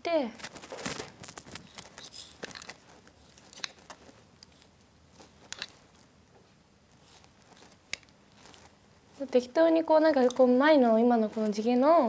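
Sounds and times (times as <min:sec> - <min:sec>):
rustling of hair and clothing: 0:00.3 - 0:12.0.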